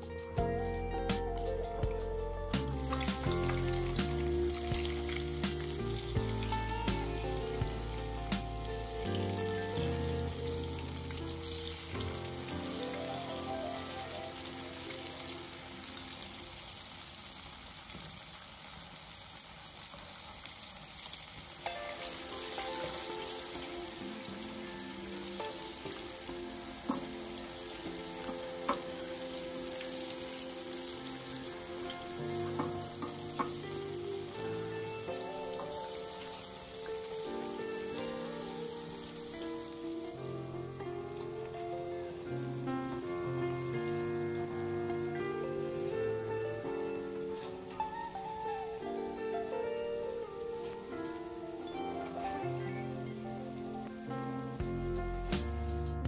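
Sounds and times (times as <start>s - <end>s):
soft background music: 0.0s - 17.5s, 21.6s - 56.0s
potatoes sizzling in a pan: 0.0s - 55.9s.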